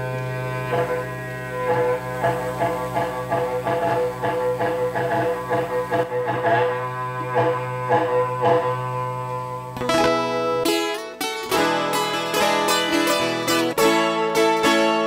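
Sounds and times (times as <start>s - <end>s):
held low note: 0.0s - 15.0s
plucked strings and guitar: 0.0s - 15.0s
strummed guitar chords: 0.0s - 15.0s.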